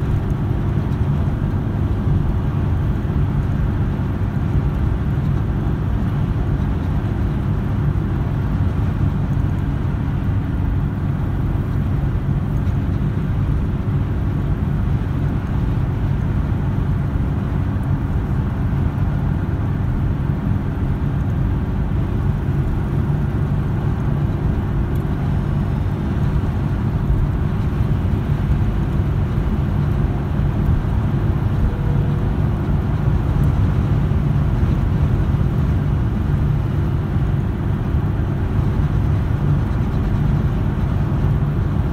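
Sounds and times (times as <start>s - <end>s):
car interior engine and road drone: 0.0s - 41.9s.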